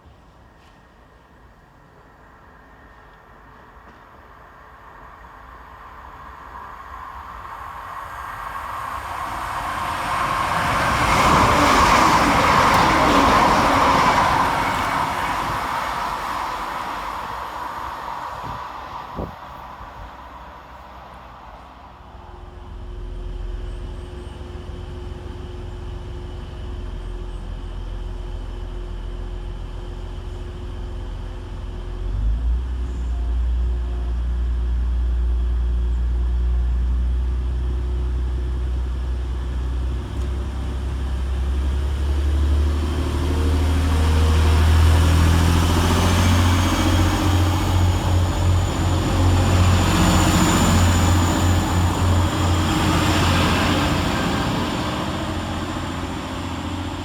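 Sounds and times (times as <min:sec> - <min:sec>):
diesel train engine rumbling: 0:00.0 - 0:57.0
rushing noise of moving train: 0:00.0 - 0:57.0.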